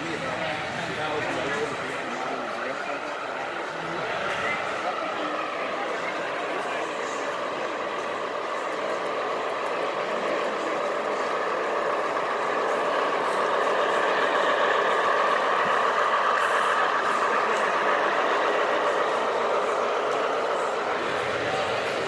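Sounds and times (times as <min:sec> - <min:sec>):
model train rumbling on rails: 0:00.0 - 0:22.0.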